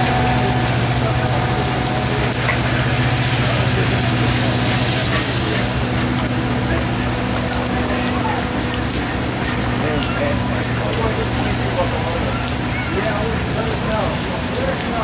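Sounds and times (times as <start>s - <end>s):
freight train rumbling past: 0.0s - 12.1s
steady rain falling: 0.0s - 15.0s.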